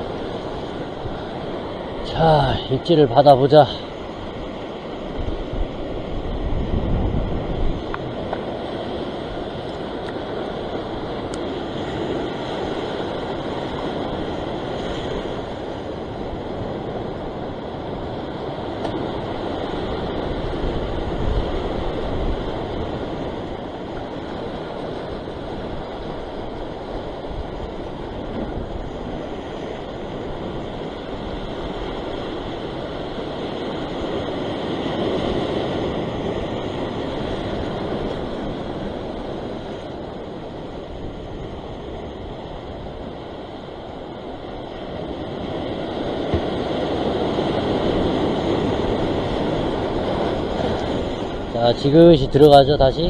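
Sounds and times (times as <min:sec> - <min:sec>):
sea surf against rocks: 0:00.0 - 0:53.0.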